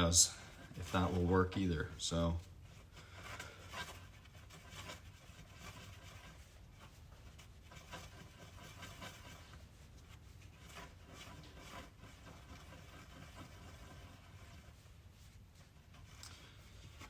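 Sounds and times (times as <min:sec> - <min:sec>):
low steady hum: 0:00.0 - 0:17.0
soft scrapes and taps: 0:00.0 - 0:17.0.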